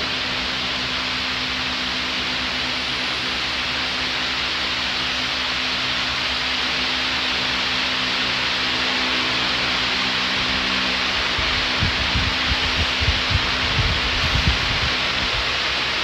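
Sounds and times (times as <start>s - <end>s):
fan rushing hiss: 0.0s - 16.0s
low motor hum: 0.0s - 16.0s.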